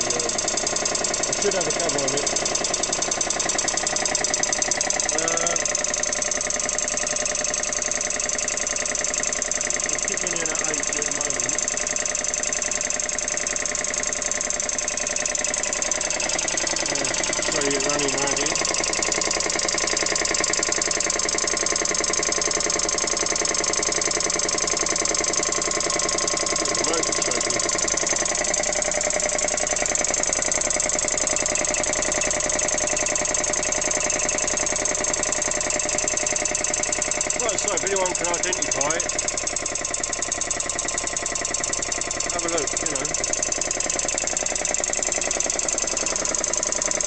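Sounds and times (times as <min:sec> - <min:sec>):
air compressor pumping: 0:00.0 - 0:47.0.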